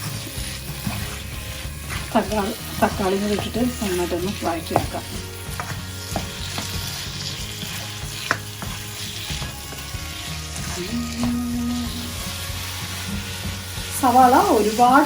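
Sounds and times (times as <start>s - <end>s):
food sizzling in a hot pan: 0.0s - 15.0s.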